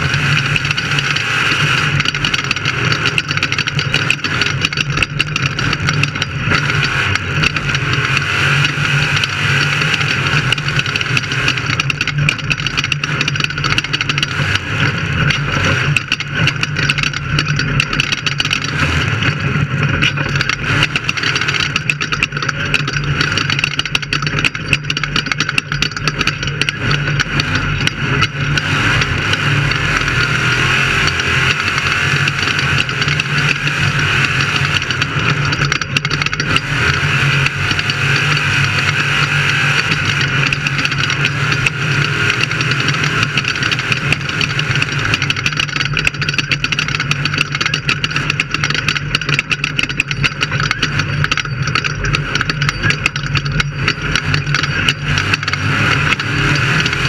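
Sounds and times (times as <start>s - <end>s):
race vehicle engine running hard: 0.0s - 57.0s
rattling and knocking: 0.0s - 57.0s.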